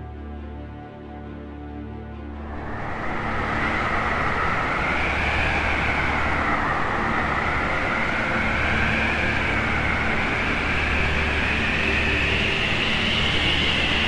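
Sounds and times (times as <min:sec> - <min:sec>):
howling wind: 0:02.2 - 0:14.0
low rumble: 0:02.3 - 0:14.0.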